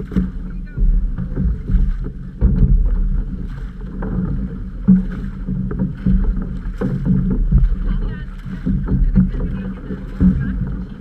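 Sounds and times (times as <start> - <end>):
knocks and splashes: 0.0 - 11.0
rumble of water and wind: 0.0 - 11.0.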